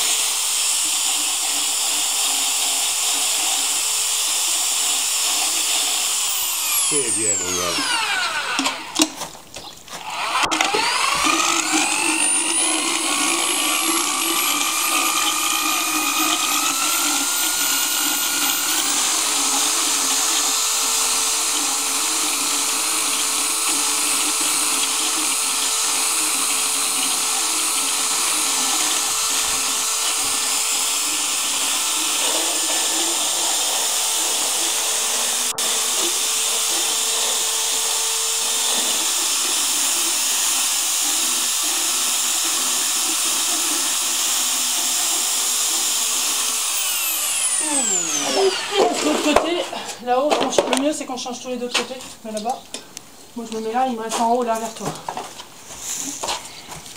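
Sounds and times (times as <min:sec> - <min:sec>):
motorized dental float whining: 0:00.0 - 0:09.1, 0:10.0 - 0:49.4.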